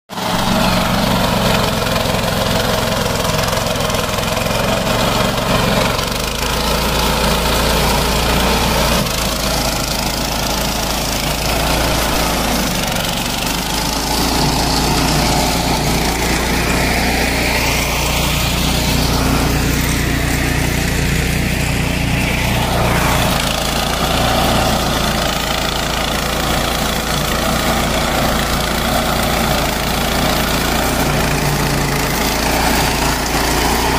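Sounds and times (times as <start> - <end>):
cutter cutting grass: 0.1 - 33.9
small petrol engine running: 0.1 - 33.9.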